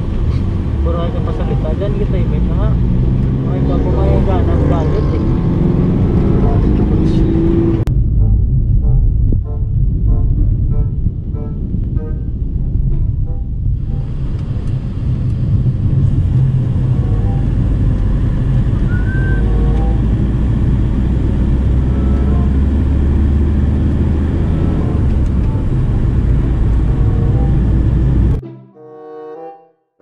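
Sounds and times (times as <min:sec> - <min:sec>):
van engine and road noise: 0:00.0 - 0:28.4.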